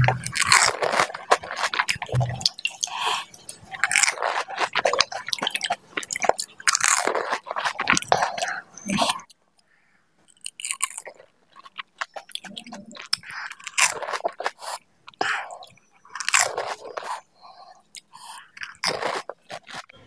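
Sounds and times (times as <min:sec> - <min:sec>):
crunching and chewing: 0:00.0 - 0:09.4, 0:10.3 - 0:20.0.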